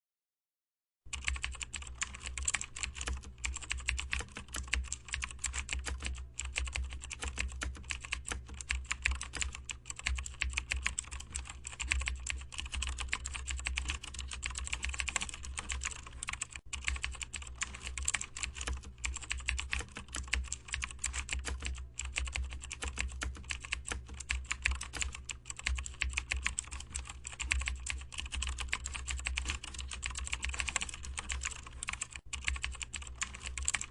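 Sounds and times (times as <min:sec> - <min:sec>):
computer keyboard typing: 0:01.1 - 0:33.9.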